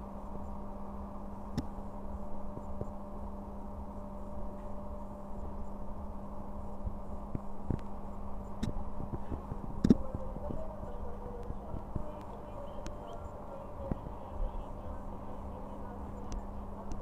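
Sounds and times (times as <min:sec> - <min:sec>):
train electrical hum: 0:00.0 - 0:17.0
train low rumble: 0:00.0 - 0:17.0.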